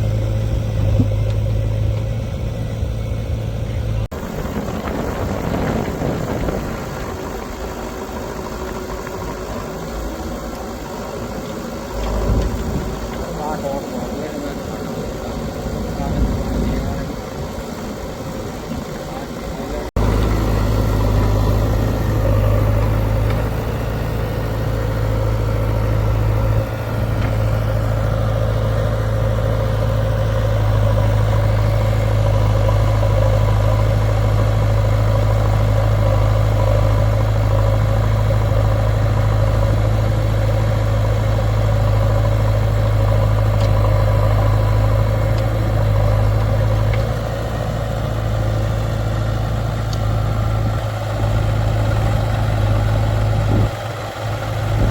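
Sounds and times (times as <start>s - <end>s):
diesel engine humming: 0.0s - 54.9s.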